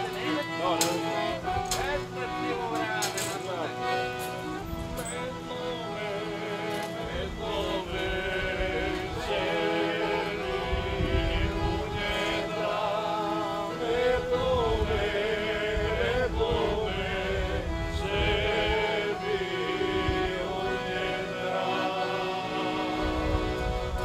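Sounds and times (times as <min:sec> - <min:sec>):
accordion: 0:00.0 - 0:24.0
men singing folk song: 0:00.0 - 0:24.0.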